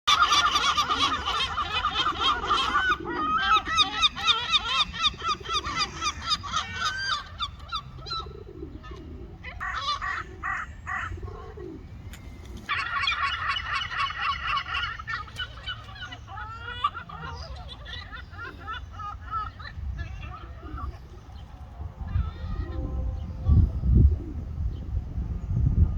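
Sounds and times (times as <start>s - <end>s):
gulls calling: 0.1s - 25.3s.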